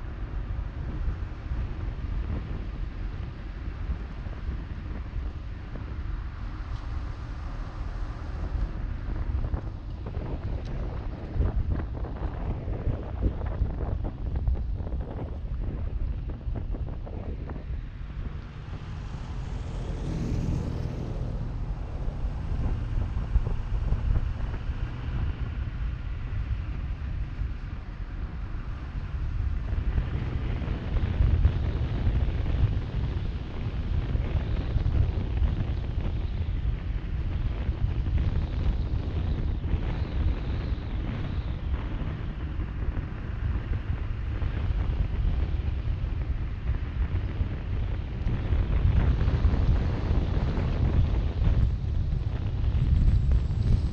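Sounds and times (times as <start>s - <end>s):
tyres rumbling on road: 0.0s - 53.9s
wind buffeting microphone: 0.0s - 53.9s.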